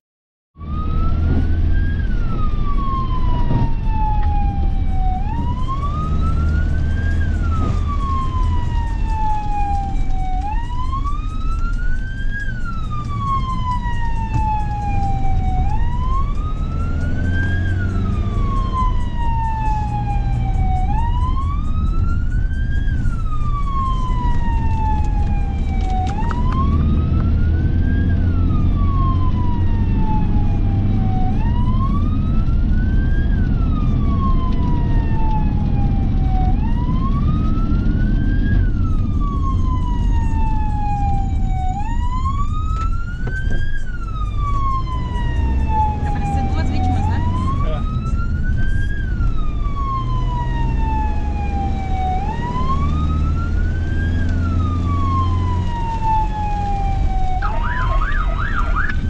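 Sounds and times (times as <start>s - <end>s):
engine and road rumble: 0.5s - 59.0s
fire truck siren wailing: 0.6s - 59.0s.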